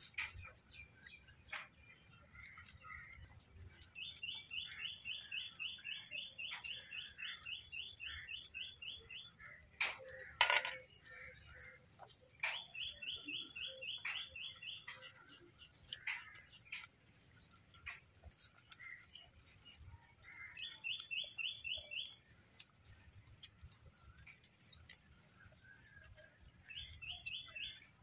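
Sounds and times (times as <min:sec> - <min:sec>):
bird chirping: 0:00.0 - 0:28.0.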